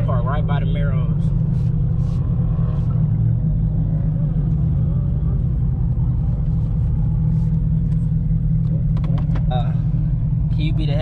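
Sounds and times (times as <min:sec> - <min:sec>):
car engine rumble and road noise: 0:00.0 - 0:11.0.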